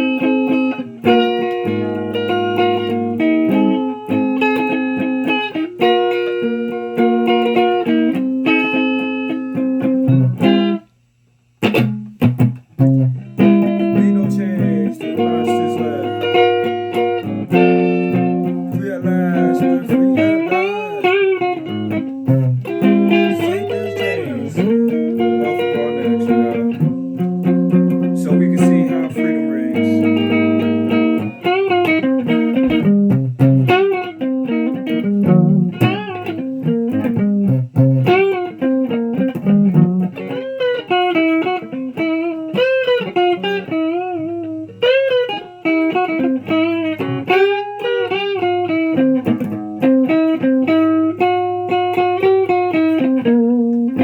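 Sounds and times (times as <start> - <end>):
electric guitar playing: 0.0 - 11.0, 11.6 - 54.0.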